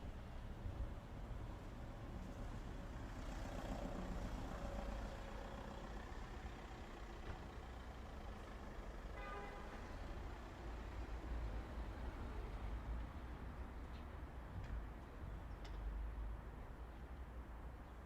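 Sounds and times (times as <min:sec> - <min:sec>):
low traffic rumble: 0:00.0 - 0:17.7.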